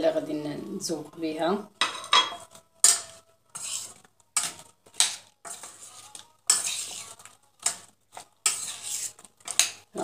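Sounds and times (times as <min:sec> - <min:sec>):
spoon scraping metal bowl: 0:01.8 - 0:10.0.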